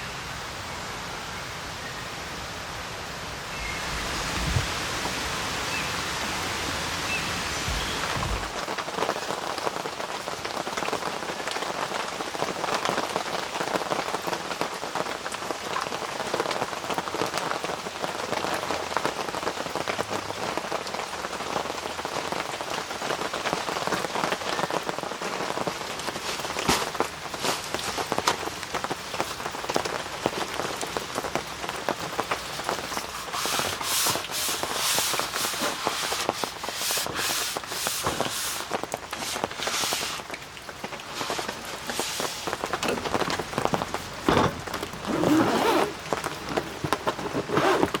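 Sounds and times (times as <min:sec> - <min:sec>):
rain patter on surfaces: 0:00.0 - 0:48.0.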